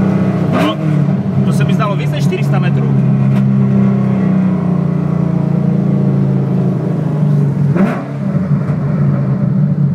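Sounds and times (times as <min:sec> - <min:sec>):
car engine running hard: 0:00.0 - 0:09.9.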